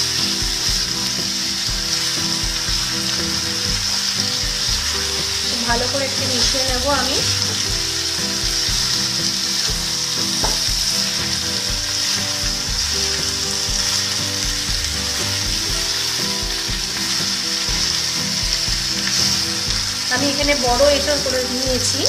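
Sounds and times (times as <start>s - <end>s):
food sizzling in hot oil: 0.0s - 22.0s
spatula scraping and knocking pan: 0.0s - 22.0s.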